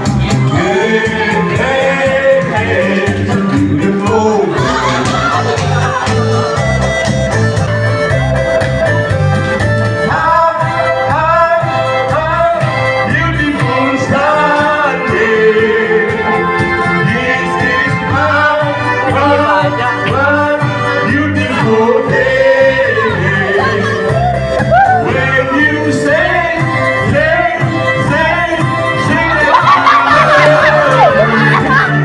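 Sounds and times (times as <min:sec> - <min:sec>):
person singing into microphone: 0:00.0 - 0:06.5, 0:10.0 - 0:32.0
steady bass beat: 0:00.0 - 0:32.0.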